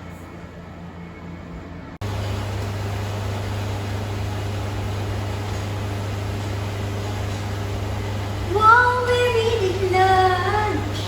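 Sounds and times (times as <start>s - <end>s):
running train hum and hiss: 0.0s - 11.0s.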